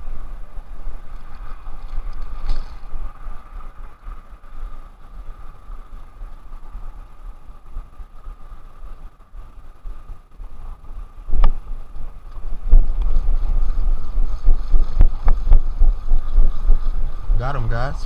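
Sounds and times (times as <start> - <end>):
steady hum: 0.0 - 18.0
wind buffeting microphone: 0.0 - 18.0.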